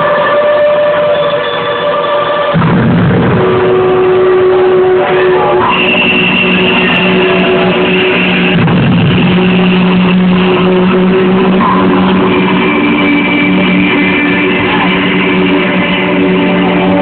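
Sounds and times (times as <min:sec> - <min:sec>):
muffled electronic dance music: 0:03.4 - 0:17.0.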